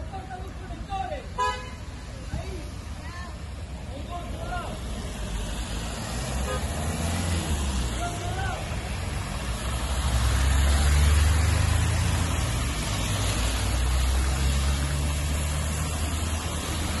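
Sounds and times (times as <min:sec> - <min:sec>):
car engine hum: 0:02.6 - 0:17.0
tyres splashing through water: 0:02.7 - 0:17.0.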